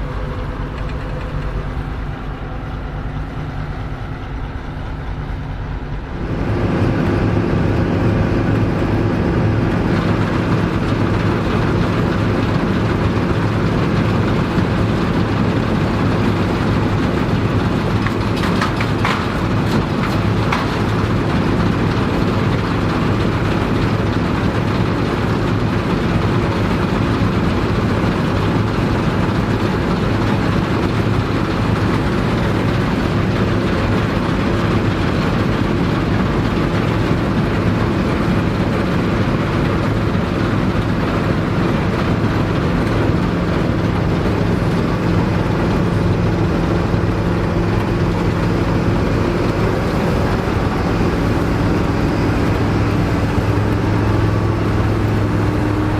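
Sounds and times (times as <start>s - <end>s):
combine harvester running: 0.0s - 55.9s.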